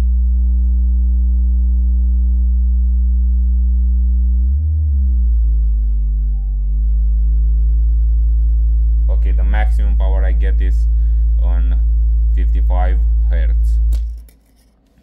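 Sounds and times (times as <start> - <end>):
transformer buzzing hum: 0.0 - 14.4.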